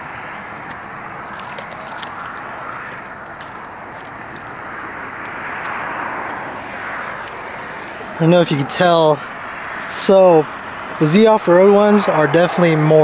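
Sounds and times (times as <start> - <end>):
crickets calling: 0.0 - 13.0
highway traffic hiss: 0.0 - 13.0
vehicle passing: 0.0 - 13.0.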